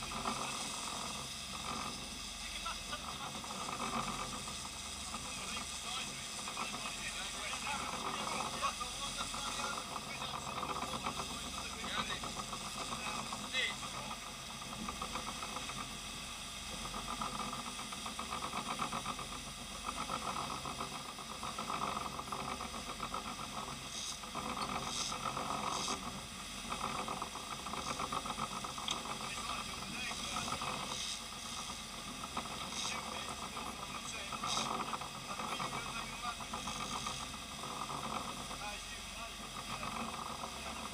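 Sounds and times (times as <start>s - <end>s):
churning wake hiss: 0.0s - 40.9s
muffled boat engine running: 0.0s - 40.9s.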